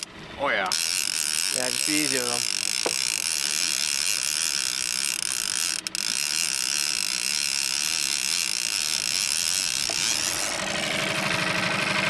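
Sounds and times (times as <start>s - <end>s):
fishing reel whirring: 0.7s - 11.8s.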